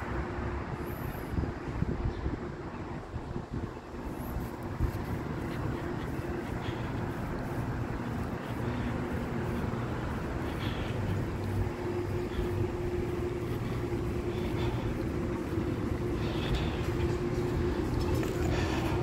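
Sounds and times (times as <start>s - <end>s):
constant hum: 0.0s - 19.0s
rumble of vehicles: 0.0s - 19.0s.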